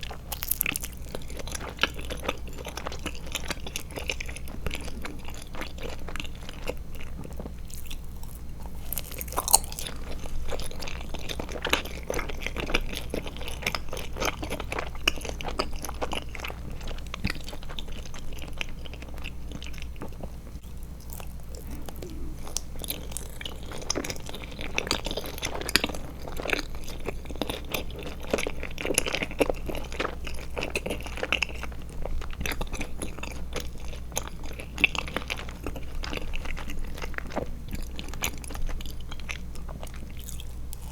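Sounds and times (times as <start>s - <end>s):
chewing gummy candy: 0.0s - 40.9s.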